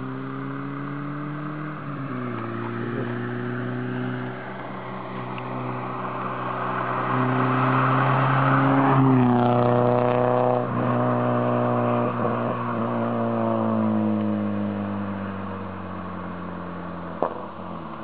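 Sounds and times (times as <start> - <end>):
car engine exhaust drone: 0.0 - 18.0.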